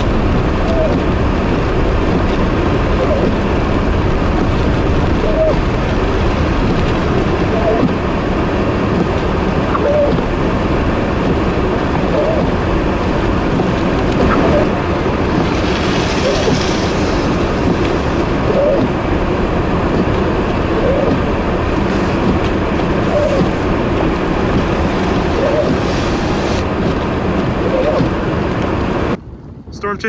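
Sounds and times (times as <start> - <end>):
vehicle road and engine rumble: 0.0 - 30.0.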